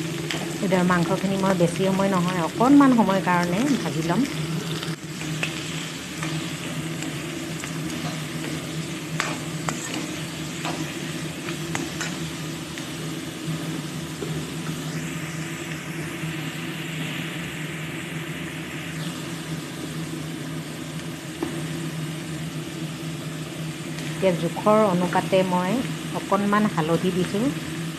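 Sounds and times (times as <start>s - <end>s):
chicken sizzling in hot oil: 0.0s - 27.9s
steady low hum: 0.0s - 27.9s.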